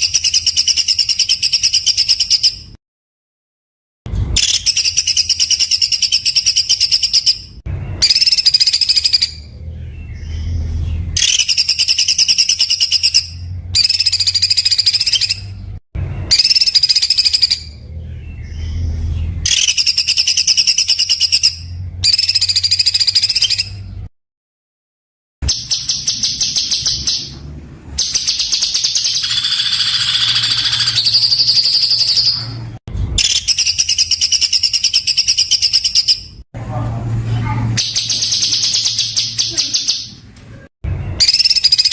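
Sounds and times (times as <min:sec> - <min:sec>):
songbird rapid rattling song: 0:00.0 - 0:02.7, 0:04.3 - 0:24.0, 0:25.4 - 0:32.6, 0:33.2 - 0:36.4, 0:37.8 - 0:40.2, 0:41.1 - 0:41.9.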